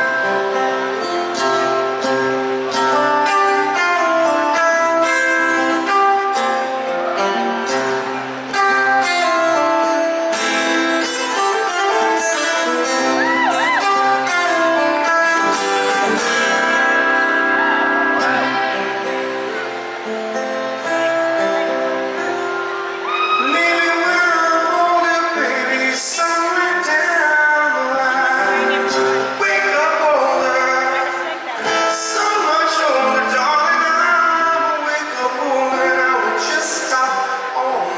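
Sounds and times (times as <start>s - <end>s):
band playing instrumental: 0.0s - 37.9s
plucked acoustic guitar: 0.0s - 37.9s.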